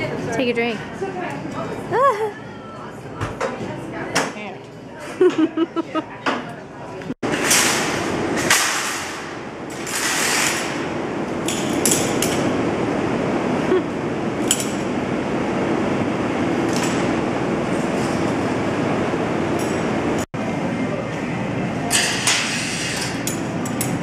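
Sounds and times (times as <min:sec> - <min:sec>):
large store background noise: 0:00.0 - 0:24.0.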